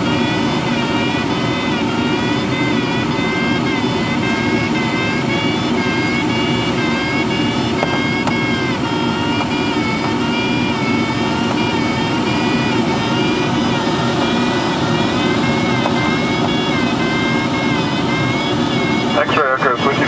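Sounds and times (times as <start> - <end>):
airflow rushing in cockpit: 0.0 - 20.0.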